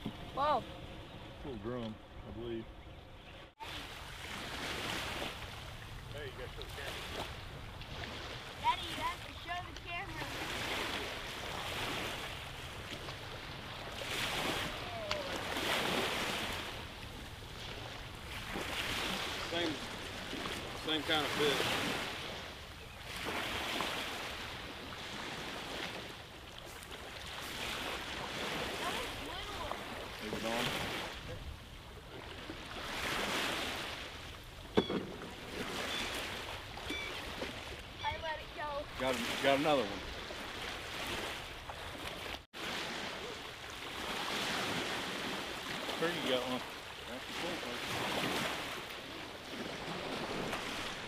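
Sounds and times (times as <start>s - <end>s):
small waves washing onto sand: 3.5s - 51.0s.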